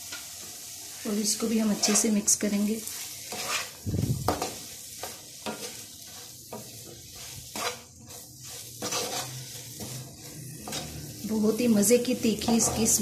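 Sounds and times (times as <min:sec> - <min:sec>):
food sizzling in hot oil: 0:00.0 - 0:13.0
spatula scraping frying pan: 0:00.0 - 0:13.0.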